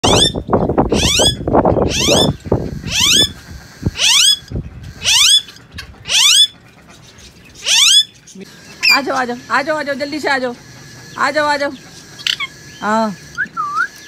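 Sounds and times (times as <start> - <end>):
parakeets screeching: 0.0 - 13.4.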